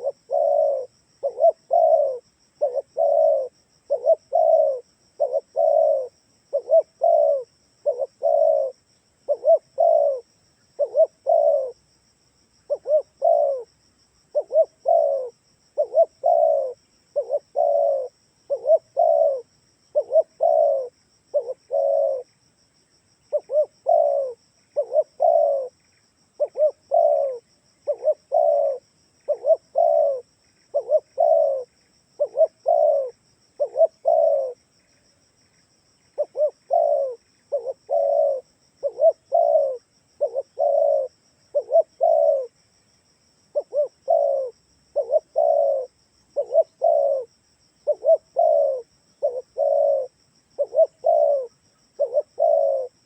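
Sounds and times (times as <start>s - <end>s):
dove cooing: 0.0s - 11.9s, 12.6s - 22.4s, 23.3s - 35.0s, 36.1s - 42.6s, 43.5s - 53.0s.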